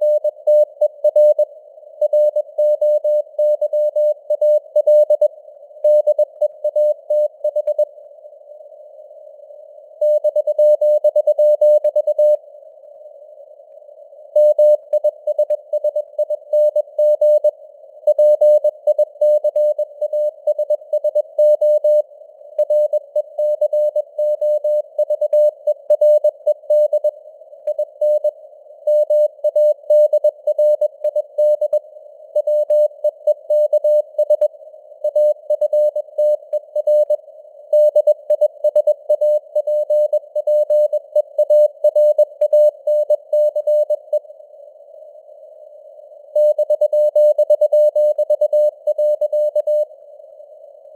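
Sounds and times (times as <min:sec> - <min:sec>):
morse code tone beeps: 0:00.0 - 0:07.9, 0:10.0 - 0:12.4, 0:14.4 - 0:17.5, 0:18.1 - 0:27.1, 0:27.7 - 0:28.3, 0:28.9 - 0:31.8, 0:32.4 - 0:44.2, 0:46.4 - 0:49.9.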